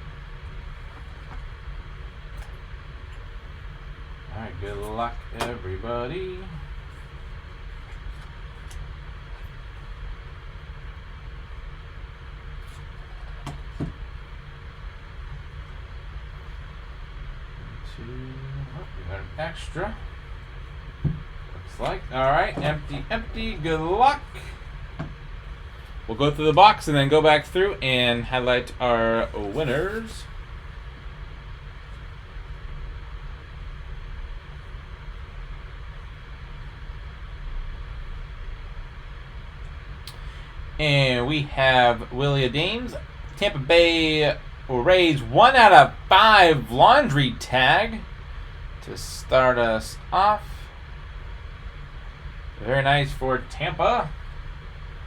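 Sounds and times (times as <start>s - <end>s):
steady hum and hiss: 0.0s - 55.0s.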